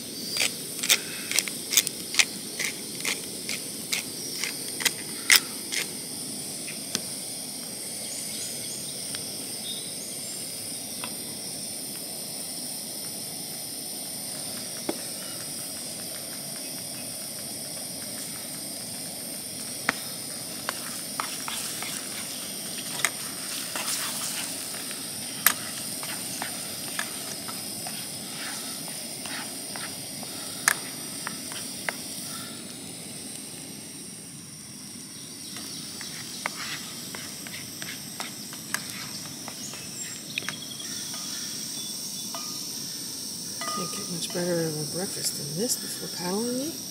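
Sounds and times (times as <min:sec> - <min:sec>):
camp stove hissing: 0:00.0 - 0:46.9
eggs sizzling in a frying pan: 0:00.0 - 0:46.9.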